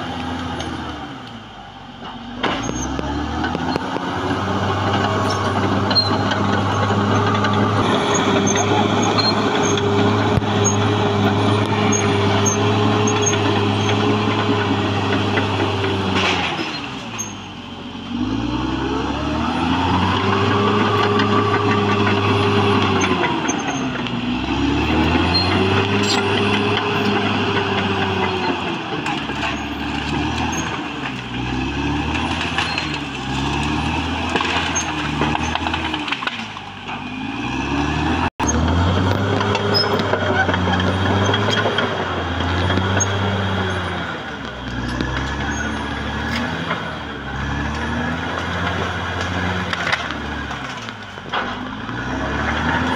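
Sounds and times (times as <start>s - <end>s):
bulldozer diesel engine running hard: 0.0s - 52.9s.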